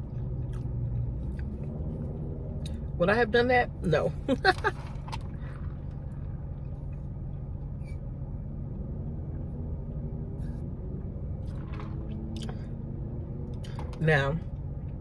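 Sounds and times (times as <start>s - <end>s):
car idling hum: 0.0s - 15.0s.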